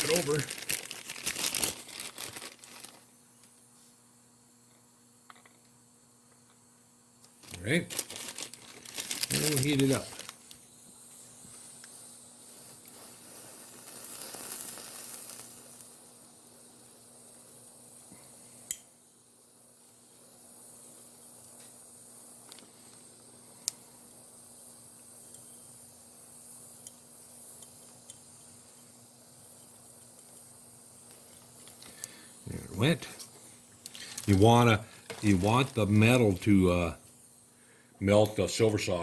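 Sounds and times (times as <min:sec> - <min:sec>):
torch flame hissing: 0:00.0 - 0:04.5, 0:07.2 - 0:39.0.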